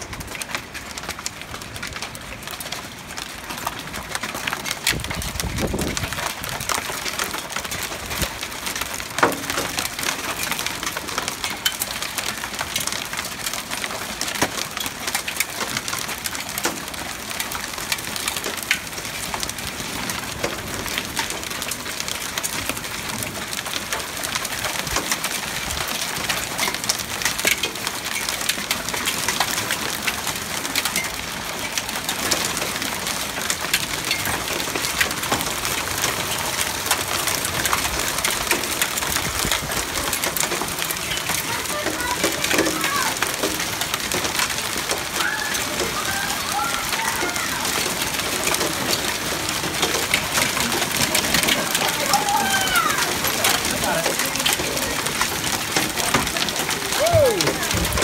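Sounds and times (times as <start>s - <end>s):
hail pelting wooden deck: 0.0s - 58.0s
rain hiss: 4.2s - 58.0s.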